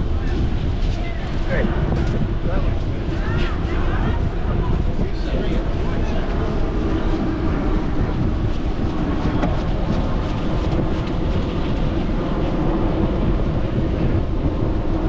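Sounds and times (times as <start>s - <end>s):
bicycle rolling: 0.0s - 15.0s
wind buffeting microphone: 0.0s - 15.0s.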